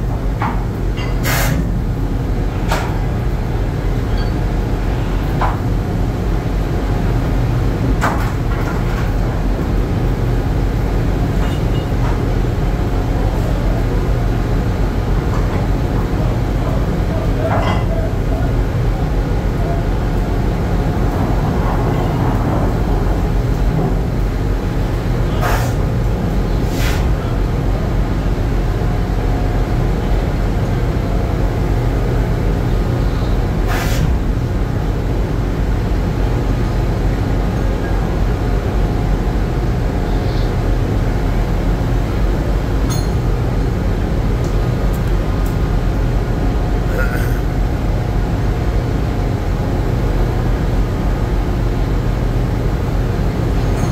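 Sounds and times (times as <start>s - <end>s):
ship machinery drone: 0.0s - 53.9s.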